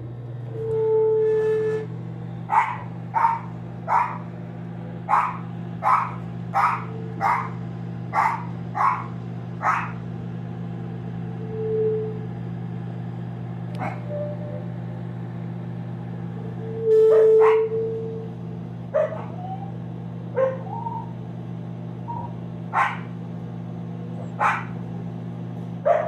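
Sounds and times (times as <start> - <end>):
microwave oven humming: 0.0 - 26.0
short held whine: 0.0 - 26.0.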